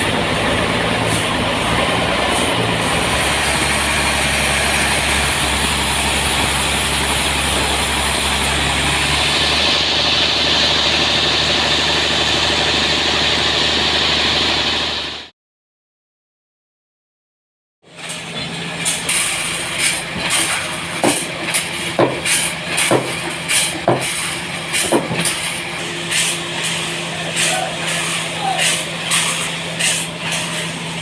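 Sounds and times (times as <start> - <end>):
sawmill engine hum: 0.0 - 15.3, 17.9 - 31.0.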